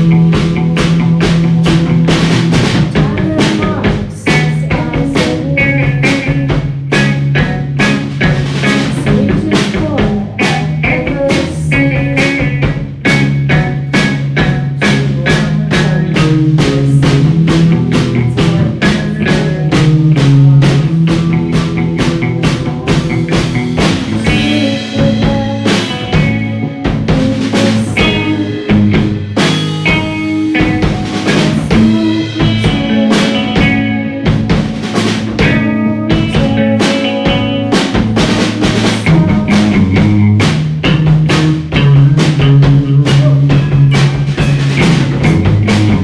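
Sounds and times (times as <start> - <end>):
rock band playing live: 0.0 - 46.0.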